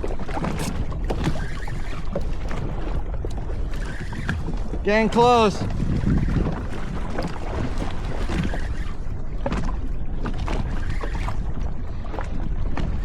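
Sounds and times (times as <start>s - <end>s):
water sloshing against a hull: 0.0s - 13.0s
wind buffeting the microphone: 0.0s - 13.0s.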